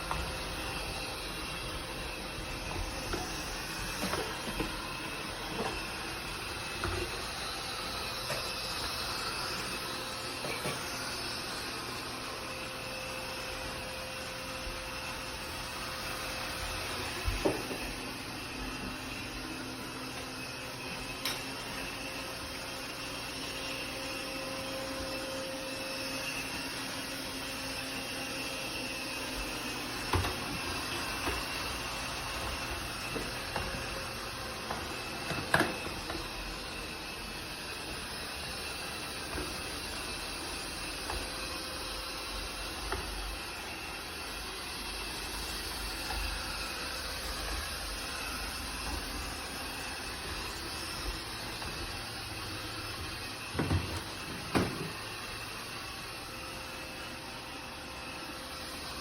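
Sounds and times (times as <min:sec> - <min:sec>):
robot vacuum whirring: 0:00.0 - 0:59.0.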